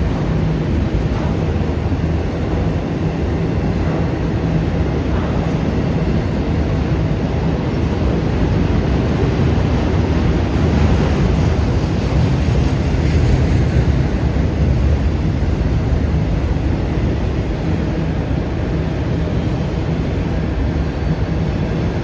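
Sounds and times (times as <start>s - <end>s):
train wheels on rail: 0.0s - 22.0s.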